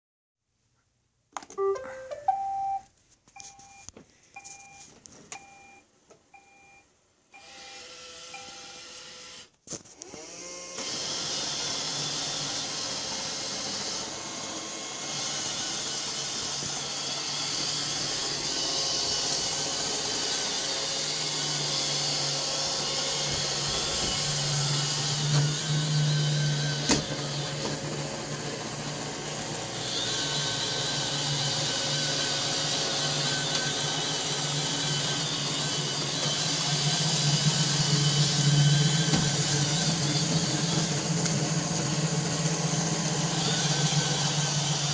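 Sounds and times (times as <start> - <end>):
robot vacuum whirring: 7.4 - 44.9.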